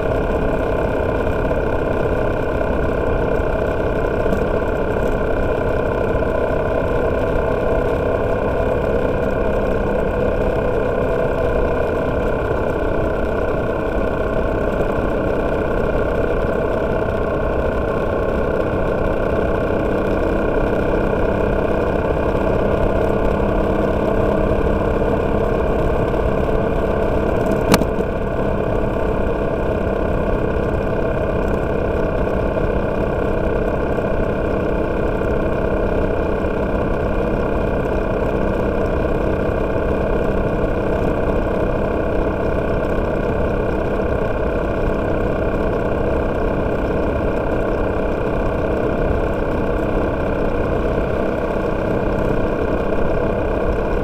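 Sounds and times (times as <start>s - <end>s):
motorcycle engine running steadily: 0.0s - 54.0s
road noise: 0.0s - 54.0s.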